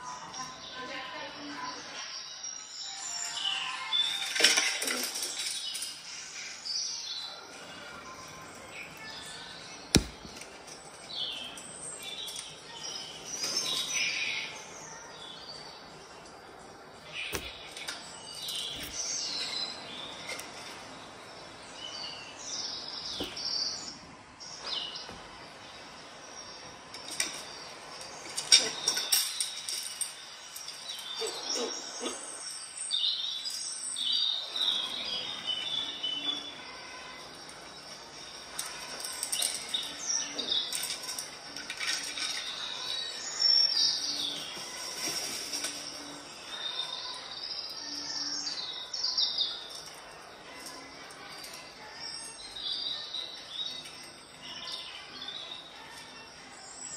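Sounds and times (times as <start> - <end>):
birds chirping through speaker: 0.0 - 56.9.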